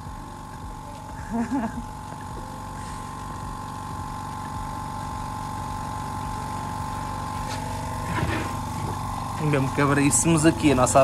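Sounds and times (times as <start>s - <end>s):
electric air compressor running: 0.0s - 11.0s.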